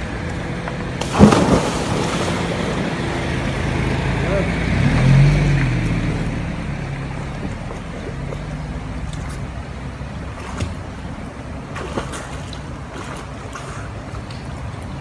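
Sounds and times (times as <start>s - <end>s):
moving water: 0.0s - 15.0s.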